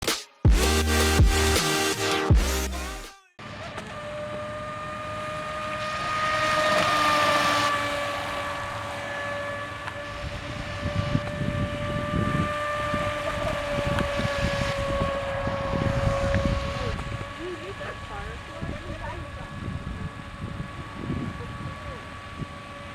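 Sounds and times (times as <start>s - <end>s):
boat motor whining: 0.0s - 22.9s.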